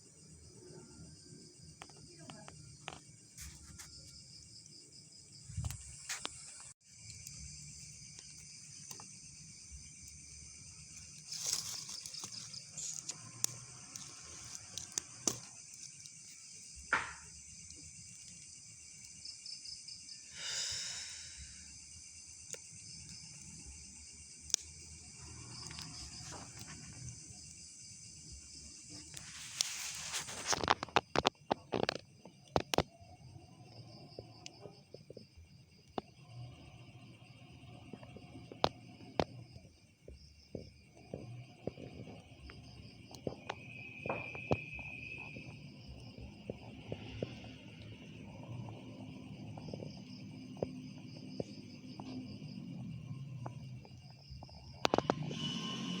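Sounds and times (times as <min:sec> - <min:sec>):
night insects chirping: 0:00.0 - 0:56.0.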